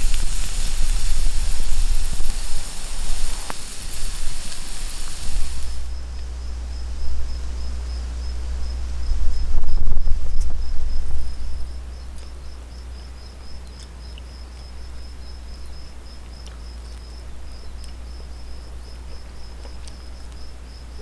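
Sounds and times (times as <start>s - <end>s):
low rumble: 0.0s - 20.7s
crickets chirping: 0.0s - 21.0s.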